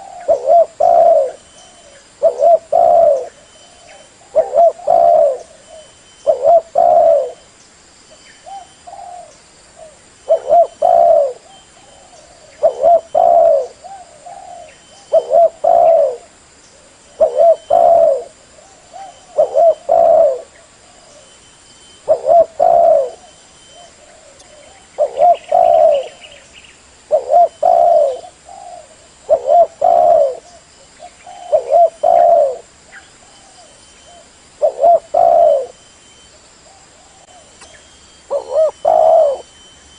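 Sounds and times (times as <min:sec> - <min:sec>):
dove cooing: 0:00.0 - 0:07.5, 0:08.4 - 0:21.3, 0:22.0 - 0:35.8, 0:36.6 - 0:39.6.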